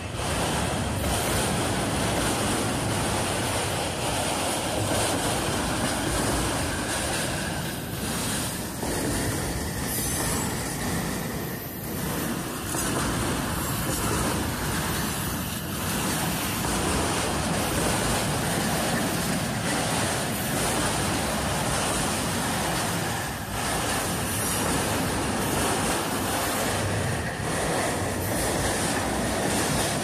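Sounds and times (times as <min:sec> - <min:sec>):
train wheels rumbling and rattling: 0:00.0 - 0:30.0.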